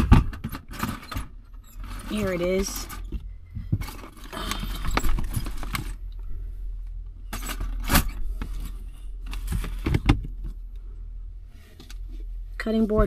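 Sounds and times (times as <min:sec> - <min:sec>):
items rustling in plastic bins: 0:00.0 - 0:10.8
steady low hum: 0:00.0 - 0:13.0.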